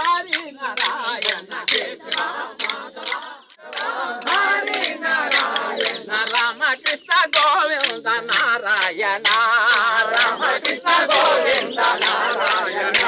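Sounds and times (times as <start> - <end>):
men chanting together: 0.0 - 13.0
wooden sticks clacking: 0.0 - 13.0.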